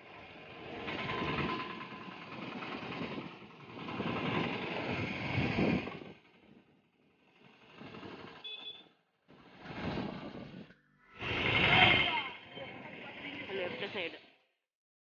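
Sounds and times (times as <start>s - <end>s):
traffic engines running: 0.0s - 14.3s.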